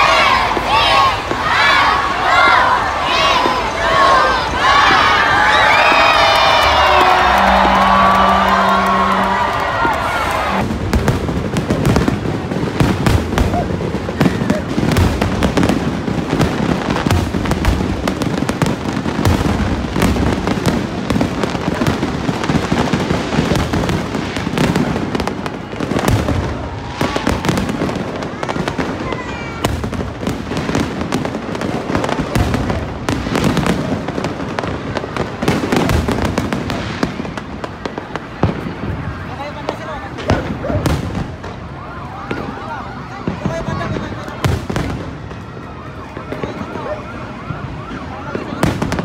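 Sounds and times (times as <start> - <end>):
fireworks bangs and pops: 5.8 - 46.9, 47.6 - 49.0.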